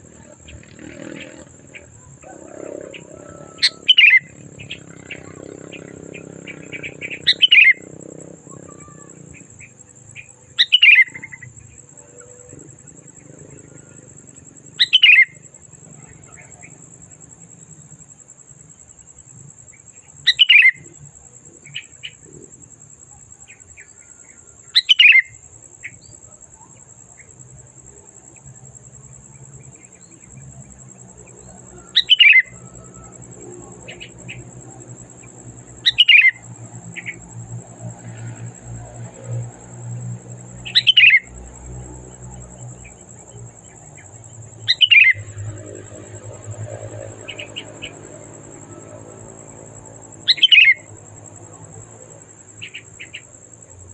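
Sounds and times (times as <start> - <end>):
faint bird chirps: 0.0 - 17.9, 18.7 - 28.4, 29.4 - 37.3, 40.6 - 41.6, 42.2 - 51.7, 52.5 - 53.9
bulbul singing: 0.0 - 18.2, 19.7 - 21.0, 21.6 - 26.3, 29.0 - 53.9.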